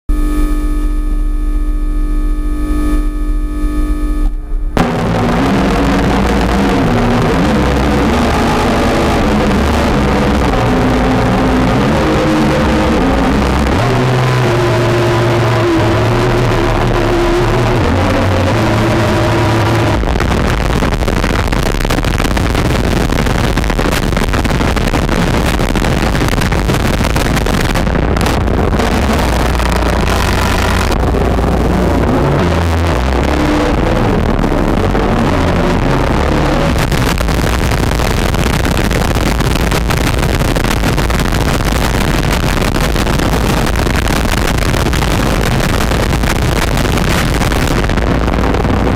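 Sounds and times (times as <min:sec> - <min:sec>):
harsh distorted noise: 0:00.1 - 0:48.9
low droning tones: 0:00.1 - 0:48.9
deep rumble: 0:00.3 - 0:48.9.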